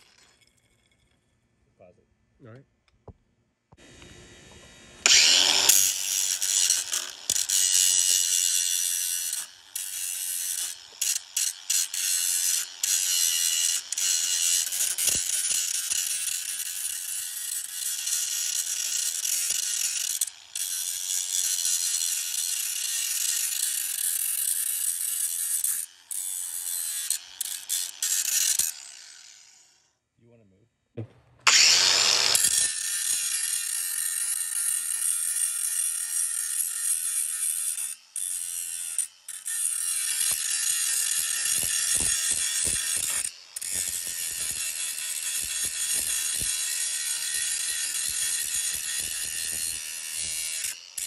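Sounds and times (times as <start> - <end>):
power tool grinding: 3.7 - 29.9, 31.3 - 51.0.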